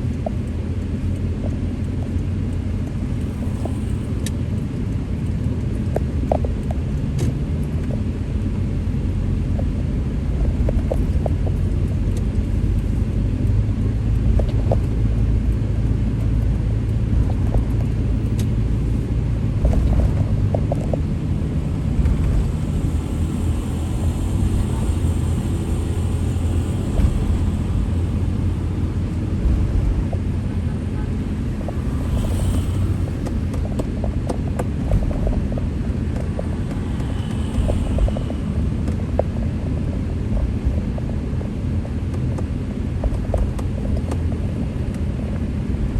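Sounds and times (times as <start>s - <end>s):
rumble of passing vehicles: 0.0s - 45.9s.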